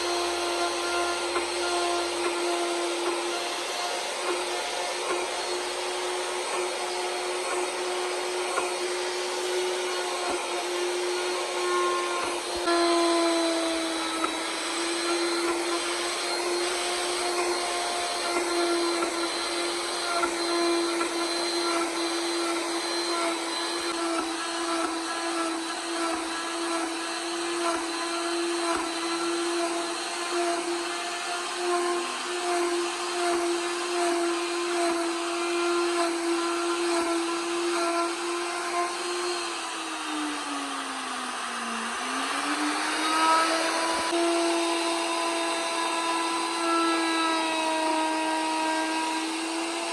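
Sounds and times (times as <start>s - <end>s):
power carving tool grinding wood: 0.0s - 49.9s.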